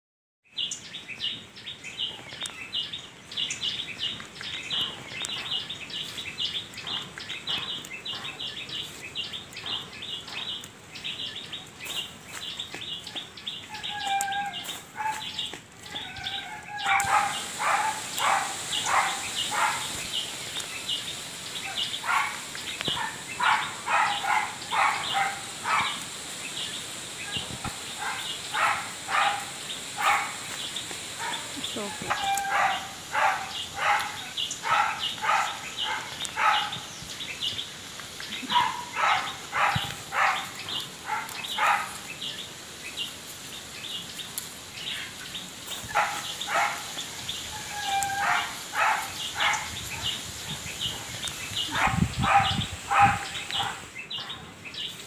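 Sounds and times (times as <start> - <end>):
birds chirping: 0.5 - 55.0
steady high hiss: 0.6 - 55.0.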